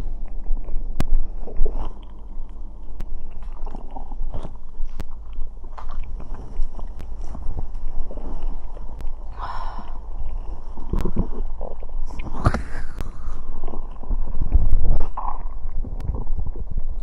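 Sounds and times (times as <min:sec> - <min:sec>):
stomach gurgling and rumbling: 0:00.0 - 0:17.0.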